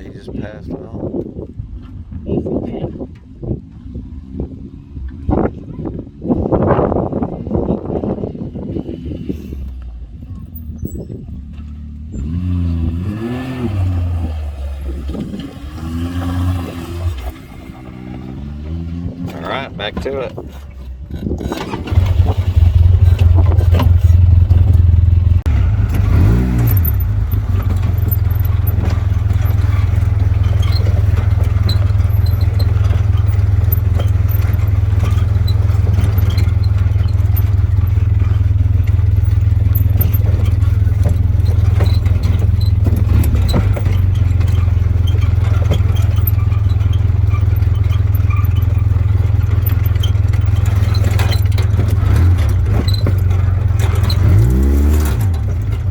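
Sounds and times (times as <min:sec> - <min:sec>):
vehicle rattling over rough ground: 0:00.0 - 0:55.9
utility vehicle engine running: 0:09.5 - 0:55.9.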